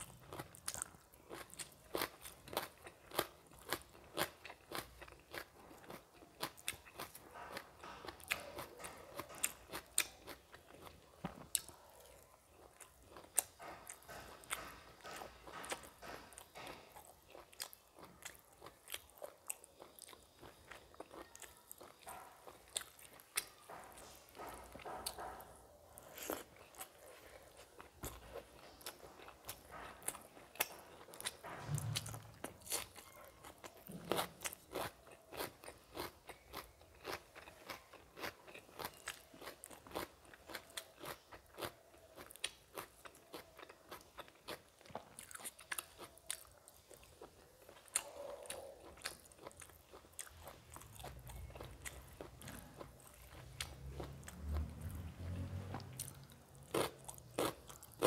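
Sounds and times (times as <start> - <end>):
chewing food: 0.0 - 58.0.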